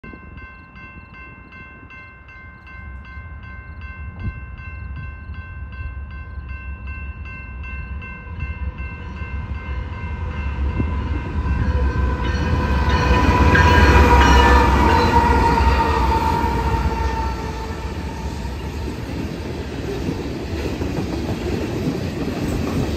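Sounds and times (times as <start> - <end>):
crossing warning bell ringing: 0.0 - 20.8
train locomotives rumbling: 0.0 - 22.9.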